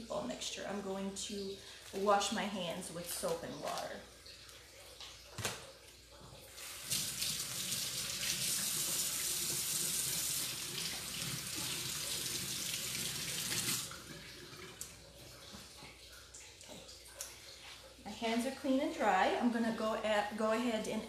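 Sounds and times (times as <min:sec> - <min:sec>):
tap water running: 0:00.0 - 0:21.0.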